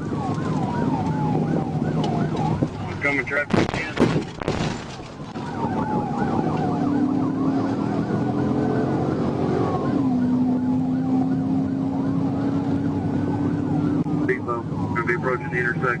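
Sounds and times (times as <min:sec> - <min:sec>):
low drone and road noise: 0:00.0 - 0:16.0
police siren yelp and wail: 0:00.0 - 0:16.0.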